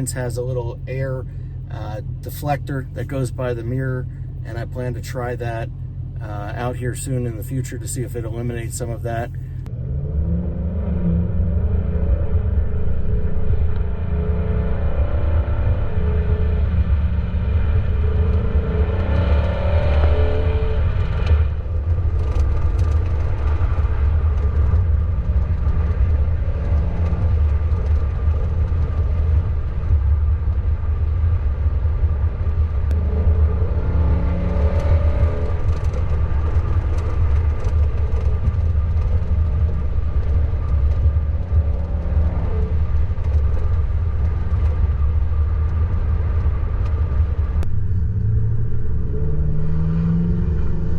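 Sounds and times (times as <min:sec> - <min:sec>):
car engine revving: 0:00.0 - 0:50.9
road rumble: 0:00.0 - 0:50.9.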